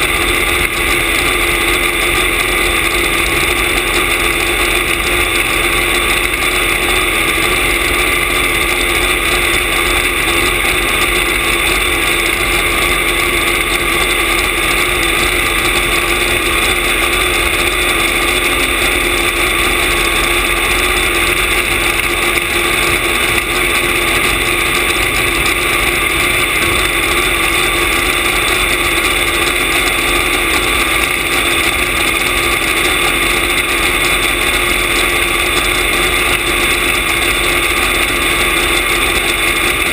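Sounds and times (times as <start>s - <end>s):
dragster engine idling: 0.0s - 39.9s.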